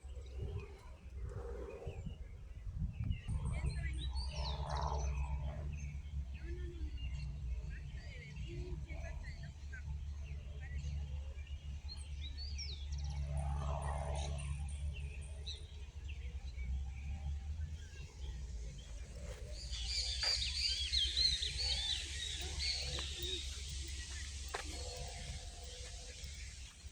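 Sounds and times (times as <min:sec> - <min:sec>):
steady low rumble: 0:00.0 - 0:26.9
wild birds chirping: 0:00.0 - 0:26.9.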